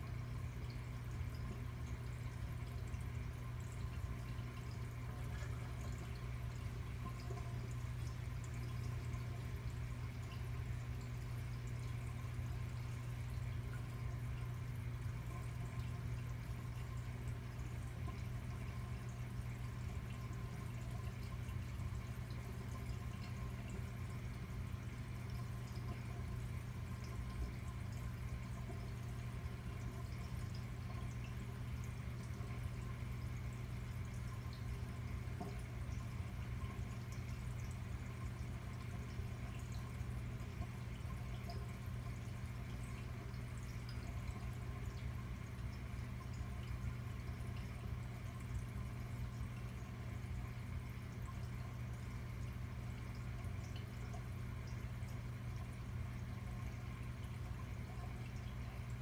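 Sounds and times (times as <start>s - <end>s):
aquarium pump hum: 0.0s - 59.0s
water trickling and dripping: 0.0s - 59.0s.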